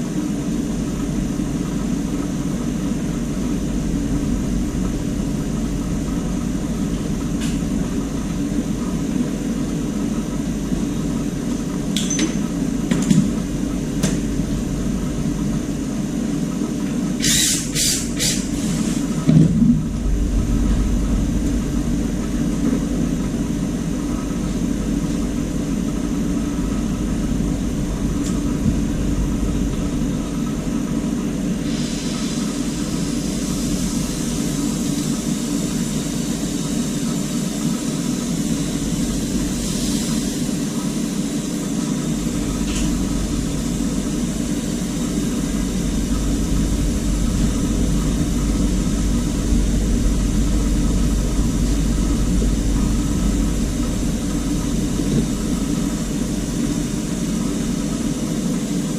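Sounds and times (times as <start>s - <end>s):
loud machine drone with hiss: 0.0s - 58.9s.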